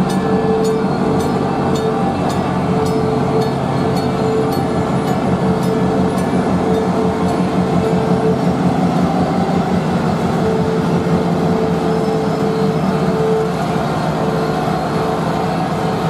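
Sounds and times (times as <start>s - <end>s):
diesel locomotive engine drone: 0.0s - 16.0s
high steady tone: 0.0s - 16.0s.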